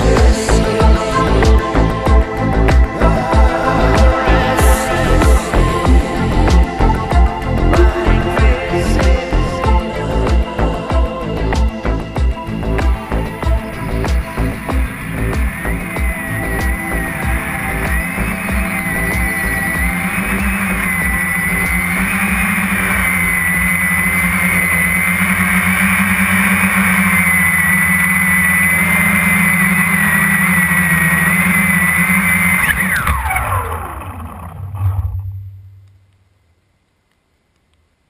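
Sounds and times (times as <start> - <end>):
quadcopter motors whining: 0.0 - 35.4.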